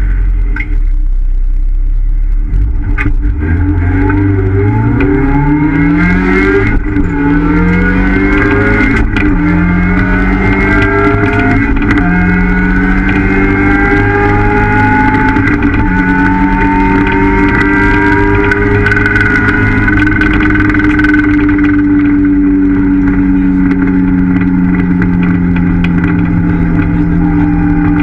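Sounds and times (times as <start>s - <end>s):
car engine revving under acceleration: 0.0s - 28.0s.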